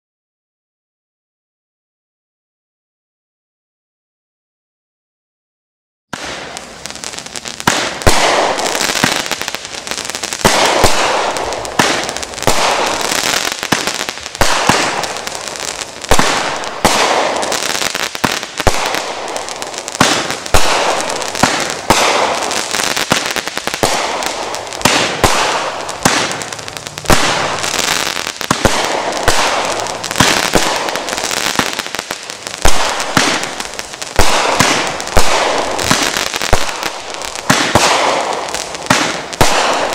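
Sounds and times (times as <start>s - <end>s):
crackling of fireworks stars: 6.1s - 39.9s
fireworks shots: 6.1s - 39.9s.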